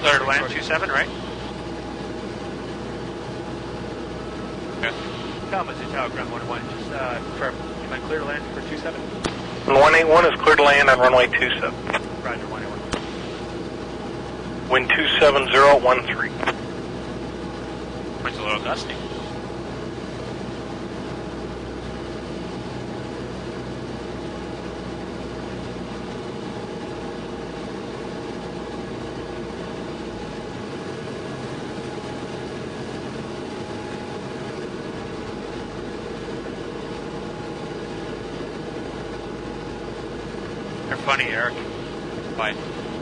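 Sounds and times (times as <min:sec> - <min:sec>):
airplane engine and propeller droning: 0:00.0 - 0:43.0.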